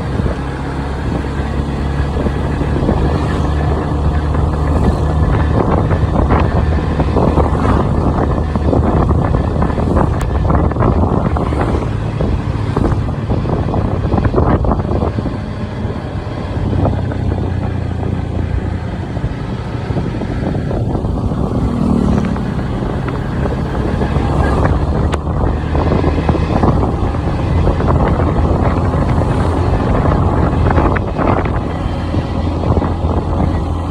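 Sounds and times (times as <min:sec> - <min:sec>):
motorcycle engine running: 0:00.0 - 0:33.9
wind noise on microphone: 0:00.0 - 0:33.9.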